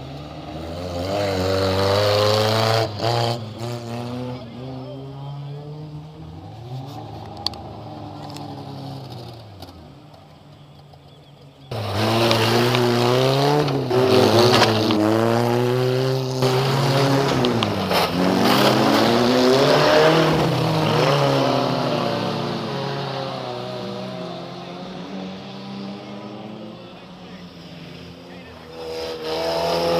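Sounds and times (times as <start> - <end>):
racing car engines revving: 0.0 - 29.9.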